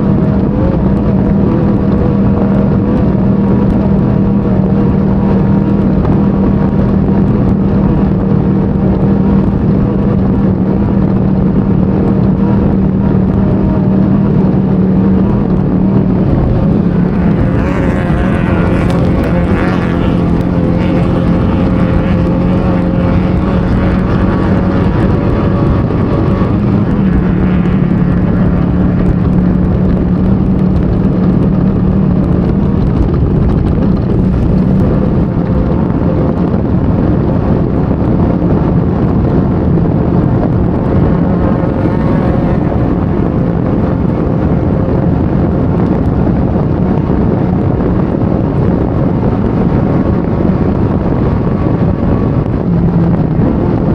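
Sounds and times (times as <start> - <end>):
loud constant rushing noise: 0.0 - 53.9
race car engine running hard: 0.0 - 53.9.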